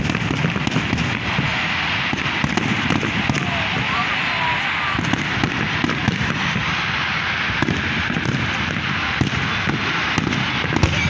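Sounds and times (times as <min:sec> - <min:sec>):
crackle and sharp bangs: 0:00.0 - 0:11.0
firework shells bursting: 0:00.0 - 0:11.0.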